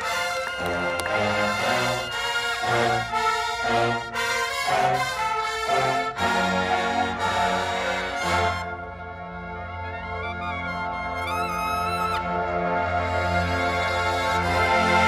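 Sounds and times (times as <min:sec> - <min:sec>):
brass line playing chords: 0:00.0 - 0:15.0.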